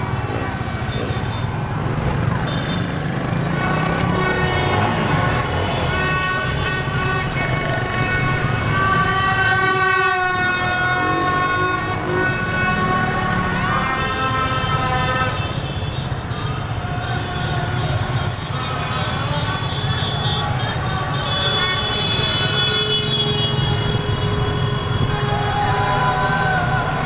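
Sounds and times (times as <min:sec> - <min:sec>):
rumble of engines and traffic: 0:00.0 - 0:27.0
vehicle horns blaring: 0:02.4 - 0:27.0.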